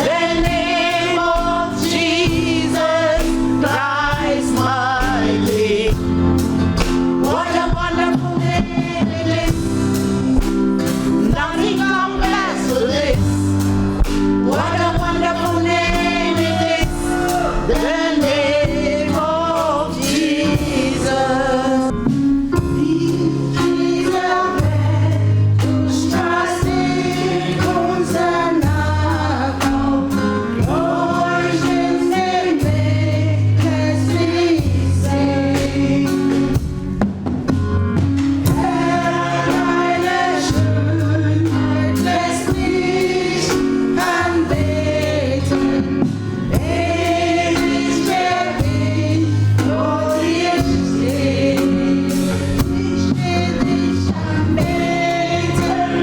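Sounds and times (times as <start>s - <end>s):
bass and drums: 0.0s - 56.0s
gospel choir singing: 0.0s - 56.0s.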